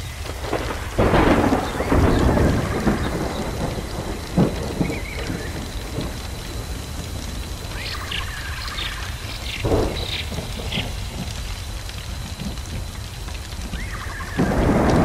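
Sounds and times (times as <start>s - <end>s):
sharp cracks: 0.0s - 15.0s
steady rain: 0.0s - 15.0s
thunder rumbling: 0.0s - 15.0s.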